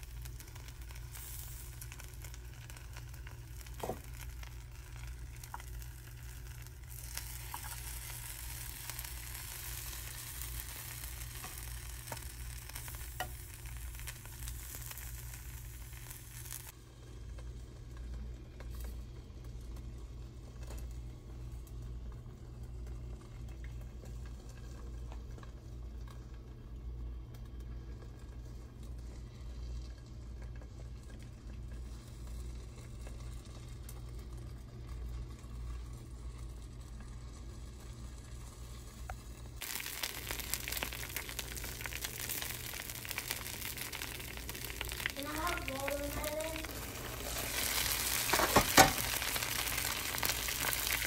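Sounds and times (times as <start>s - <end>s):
batter sizzling in a pan: 0.0s - 51.0s.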